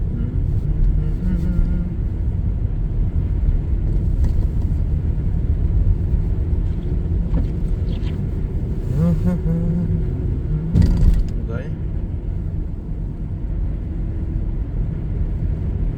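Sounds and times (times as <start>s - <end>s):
car engine and road rumble: 0.0s - 15.9s.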